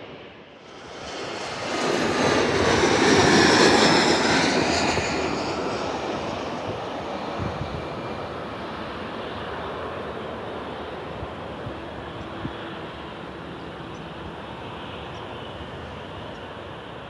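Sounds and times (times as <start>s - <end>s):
high jet engine whine: 0.0s - 17.0s
jet airliner engine roar: 0.0s - 17.0s.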